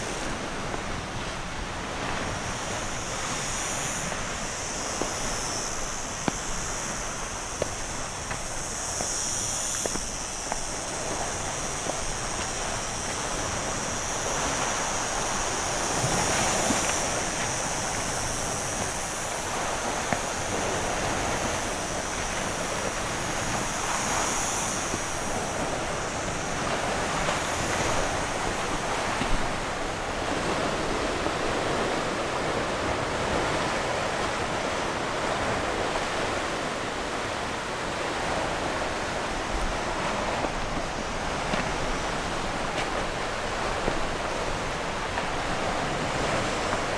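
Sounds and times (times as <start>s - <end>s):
sea waves washing onto shore: 0.0s - 46.9s.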